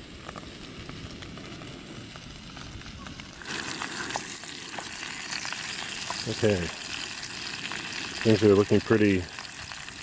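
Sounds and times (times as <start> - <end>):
bacon sizzling in a pan: 0.0 - 10.0.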